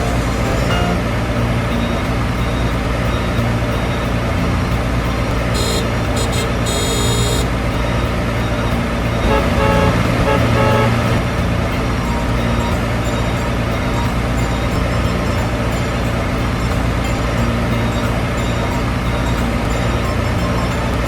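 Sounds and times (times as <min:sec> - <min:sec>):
high-pitched tooting tone: 0:00.0 - 0:17.2.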